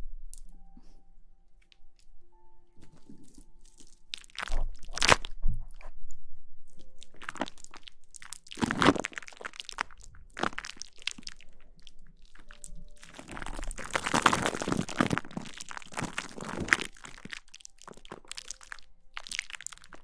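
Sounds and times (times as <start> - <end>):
crinkly asmr rustling: 0.3 - 20.0.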